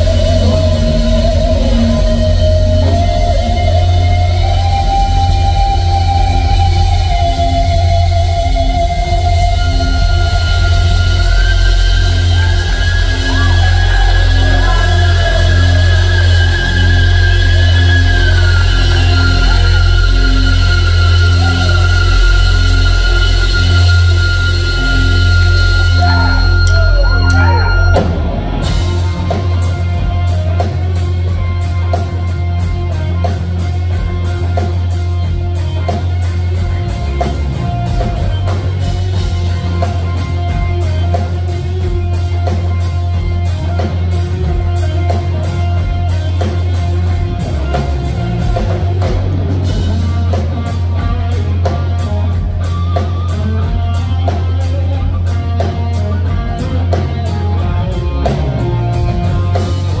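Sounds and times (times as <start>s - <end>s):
drum kit beat: 0.0s - 60.0s
electric guitar lead: 0.0s - 60.0s.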